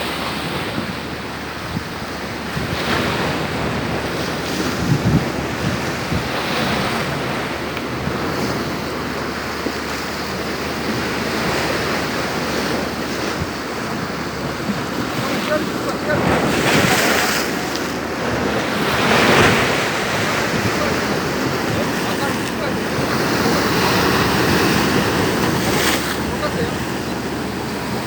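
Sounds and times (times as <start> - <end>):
storm waves breaking: 0.0 - 28.0
wind buffeting microphone: 0.0 - 28.0.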